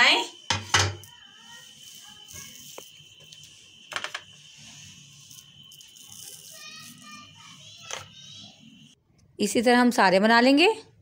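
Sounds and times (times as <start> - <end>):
faint steady high tone: 0.0 - 9.0.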